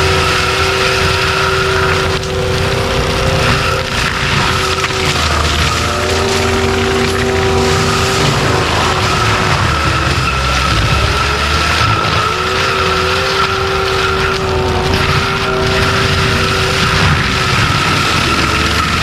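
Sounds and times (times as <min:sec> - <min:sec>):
diesel engine drone: 0:00.0 - 0:19.0
mulcher drive whine: 0:00.0 - 0:19.0.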